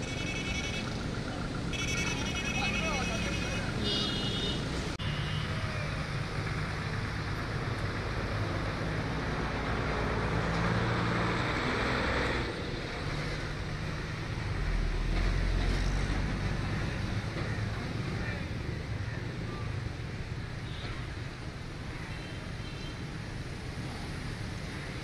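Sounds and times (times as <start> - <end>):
outdoor noise: 0.0 - 25.0.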